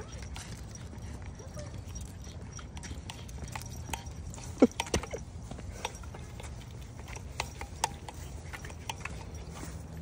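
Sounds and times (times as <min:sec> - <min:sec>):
footsteps on concrete: 0:00.0 - 0:10.0.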